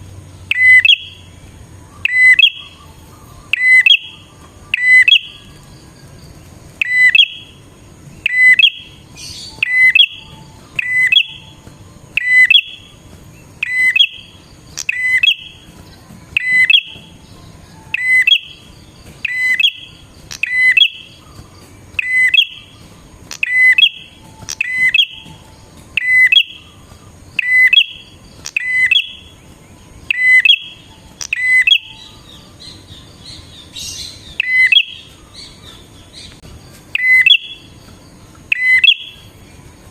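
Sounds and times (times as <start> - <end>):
prinia bird calling: 0.0 - 39.9.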